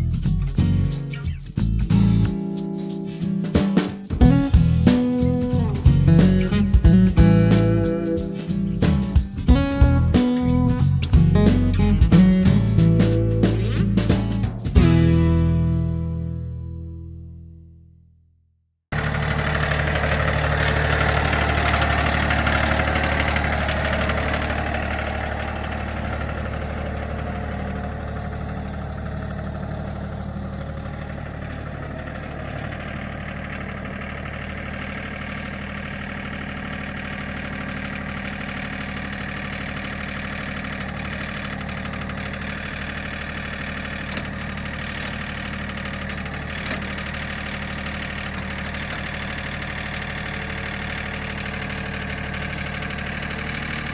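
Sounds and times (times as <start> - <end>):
engine idling: 0.0 - 15.3, 18.9 - 53.9.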